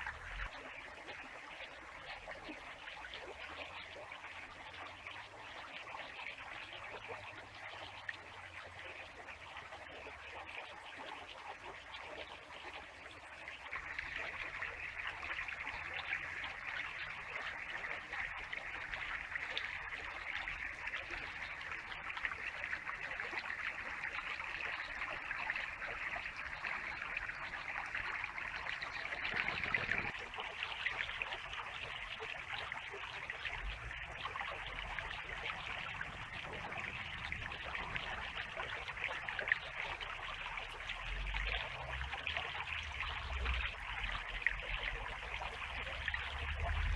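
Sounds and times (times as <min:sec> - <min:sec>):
stream babbling over stones: 0:00.0 - 0:46.9.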